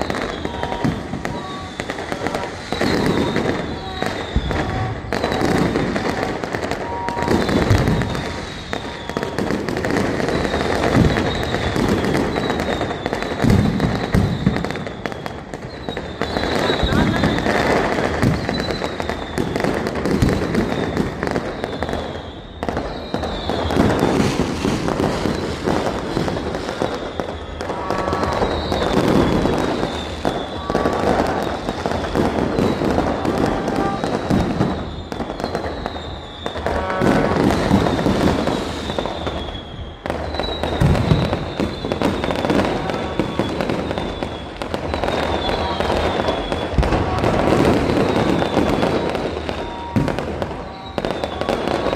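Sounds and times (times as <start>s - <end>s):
fireworks bangs and crackling: 0.0s - 51.9s
high falling whistles: 0.0s - 51.9s.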